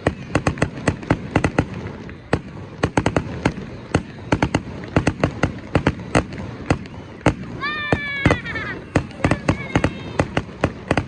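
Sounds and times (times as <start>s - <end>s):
fireworks cracking and popping: 0.0s - 11.0s
steady background noise: 0.0s - 11.0s.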